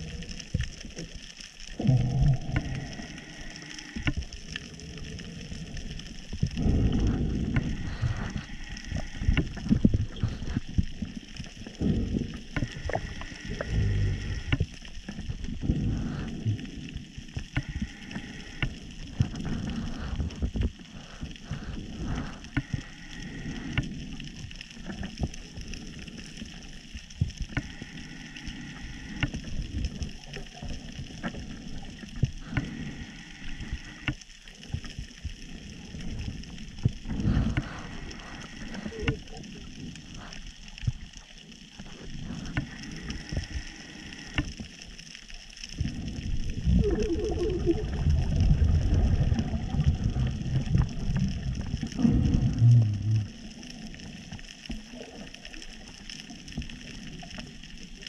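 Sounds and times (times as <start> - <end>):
low rumble of water movement: 0.0 - 58.0.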